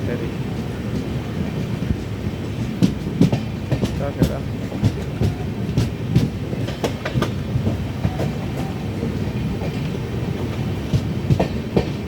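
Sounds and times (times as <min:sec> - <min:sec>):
train rumbling on rails: 0:00.0 - 0:12.0
train wheel clacks: 0:00.0 - 0:12.0.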